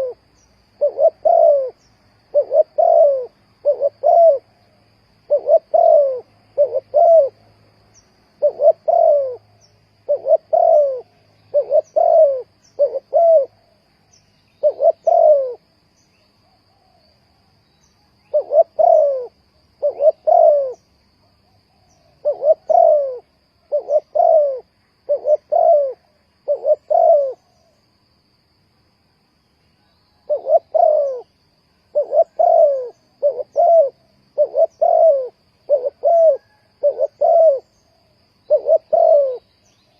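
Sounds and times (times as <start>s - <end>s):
dove cooing: 0.0s - 4.7s, 5.3s - 7.5s, 8.4s - 13.8s, 14.6s - 15.7s, 18.2s - 27.8s, 30.1s - 39.8s.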